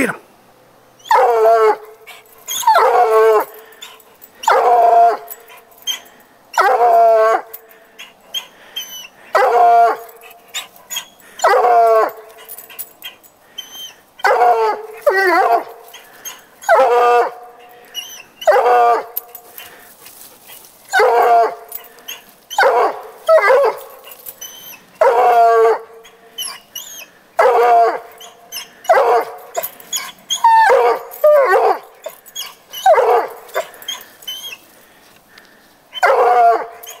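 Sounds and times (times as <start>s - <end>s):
hound baying: 1.0s - 34.7s, 36.0s - 37.0s.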